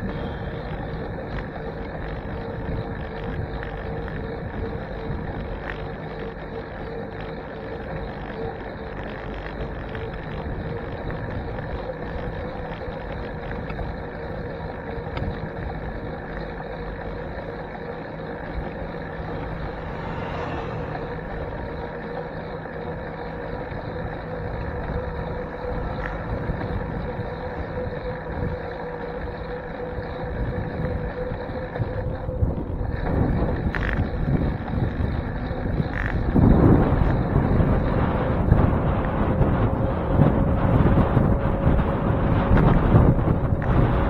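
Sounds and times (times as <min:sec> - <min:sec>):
steady whine: 0:00.0 - 0:44.0
tyre and road noise: 0:00.0 - 0:44.0
wind rumble on microphone: 0:00.0 - 0:44.0.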